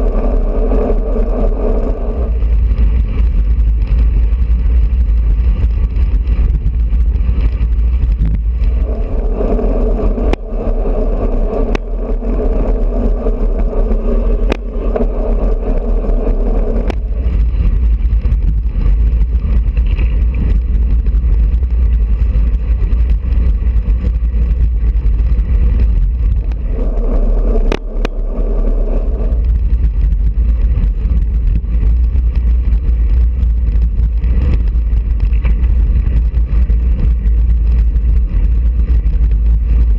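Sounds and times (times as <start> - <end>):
droning hum: 0.0 - 39.9
road rumble: 0.0 - 39.9
sharp clicks and rattles: 0.0 - 39.9
wind buffeting microphone: 0.0 - 39.9.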